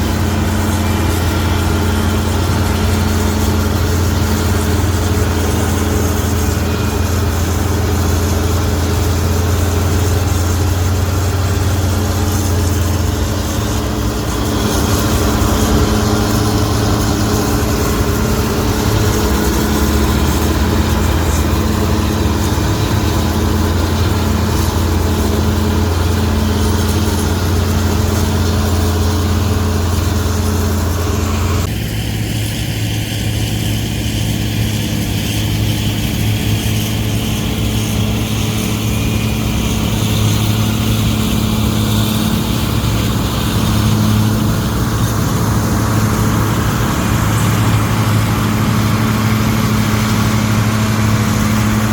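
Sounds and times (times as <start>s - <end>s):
diesel farm machine droning: 0.0s - 51.9s.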